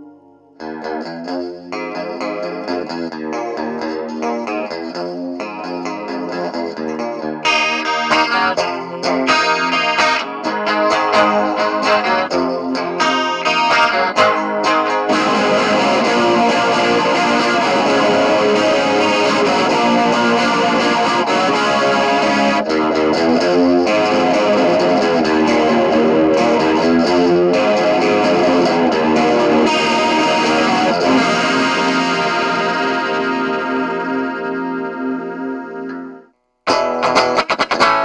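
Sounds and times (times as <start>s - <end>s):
distorted electric guitar chords: 0.0s - 38.0s.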